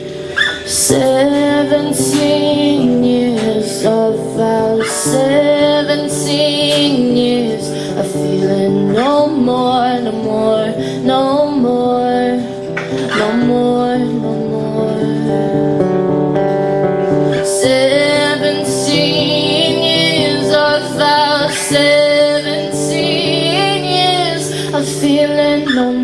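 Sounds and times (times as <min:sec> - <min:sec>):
woman singing: 0:00.0 - 0:16.5, 0:17.2 - 0:26.0
acoustic guitar strumming: 0:00.0 - 0:26.0.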